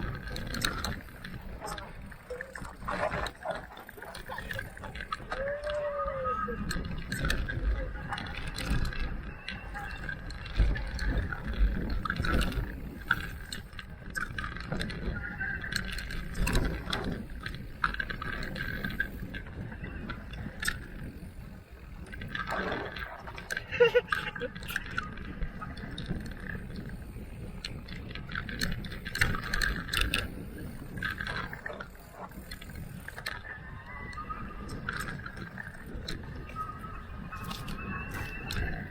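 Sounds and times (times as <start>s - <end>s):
bike clicks and rattles: 0.0s - 38.9s
bike rumbling over rough trail: 0.0s - 38.9s.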